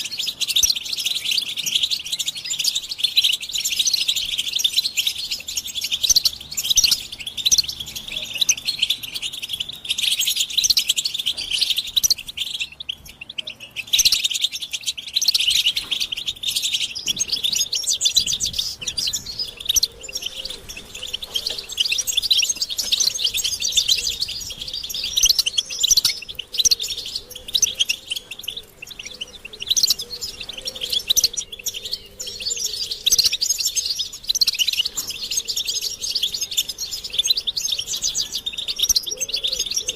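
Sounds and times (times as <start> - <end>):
finches chattering and twittering: 0.0 - 39.9.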